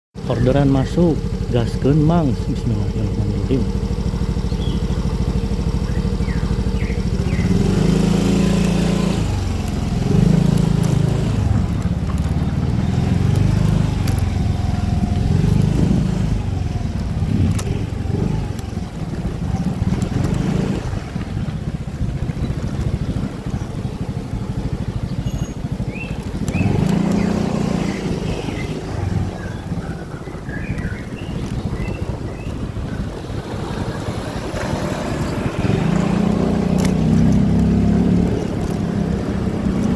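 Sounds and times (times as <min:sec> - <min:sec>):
motorcycle engine accelerating: 0:00.2 - 0:39.9.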